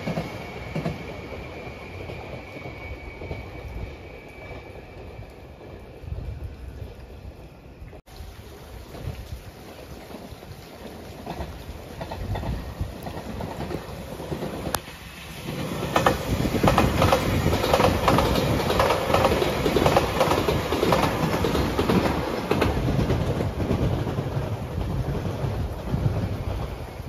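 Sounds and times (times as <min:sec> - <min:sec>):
train rushing past: 0:00.0 - 0:07.8, 0:08.6 - 0:27.0.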